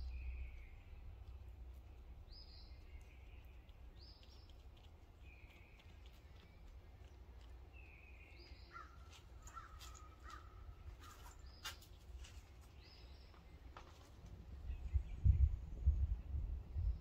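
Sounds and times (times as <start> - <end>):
low steady room hum: 0.0 - 17.0.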